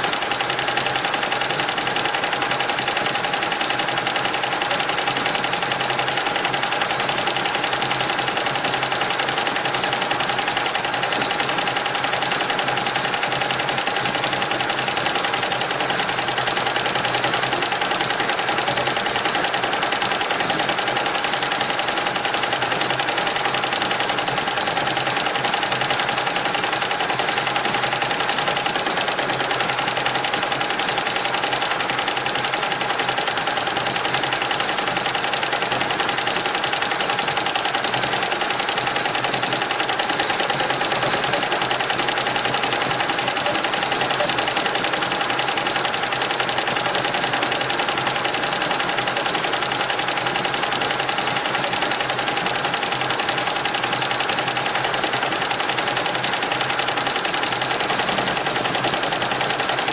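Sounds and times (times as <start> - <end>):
embroidery machine needles clattering: 0.0 - 59.9.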